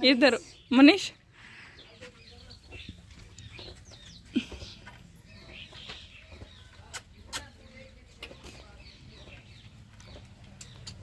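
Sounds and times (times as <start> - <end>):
bird chirps: 1.7 - 11.0.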